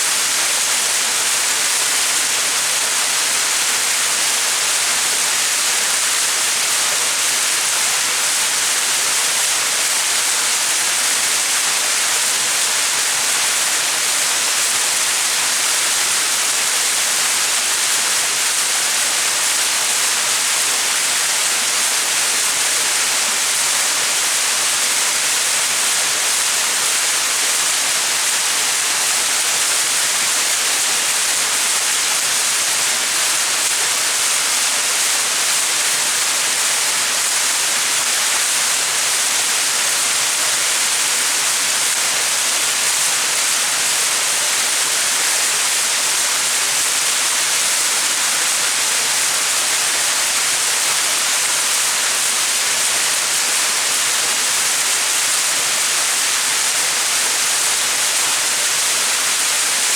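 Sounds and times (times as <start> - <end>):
waterfall splashing: 0.1 - 59.9.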